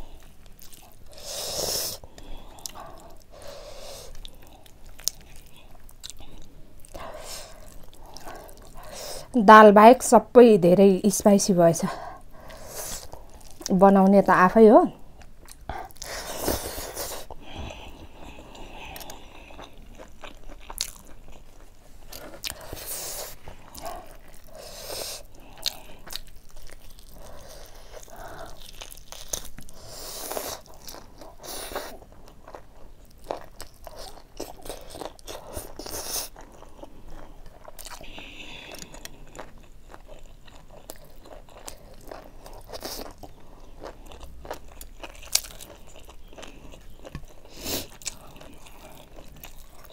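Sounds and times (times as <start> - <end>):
person chewing food: 0.0 - 9.3, 12.0 - 13.7, 15.0 - 49.9.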